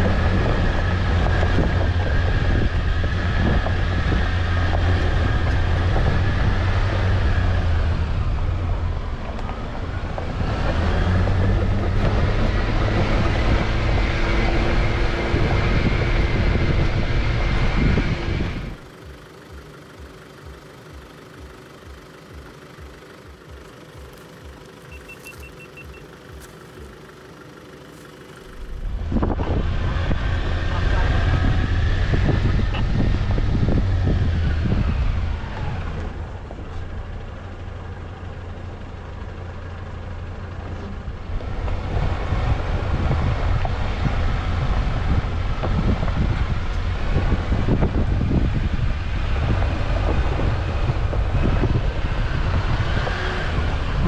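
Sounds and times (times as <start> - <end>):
engine and road noise: 0.0 - 54.0.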